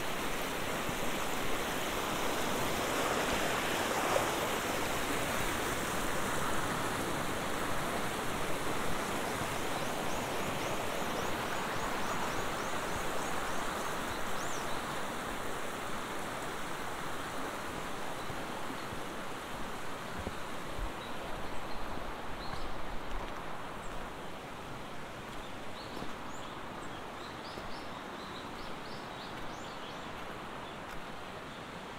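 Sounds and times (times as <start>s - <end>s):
stream rushing over rocks: 0.0s - 31.9s.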